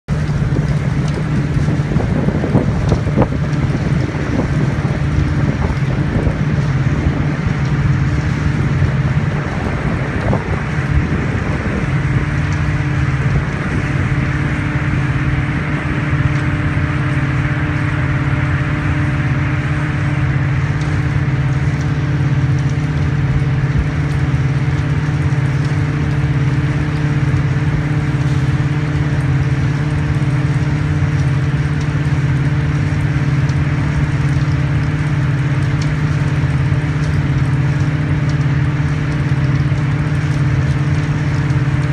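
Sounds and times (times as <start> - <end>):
low mechanical hum: 0.1 - 41.9
wind noise on microphone: 0.1 - 41.9.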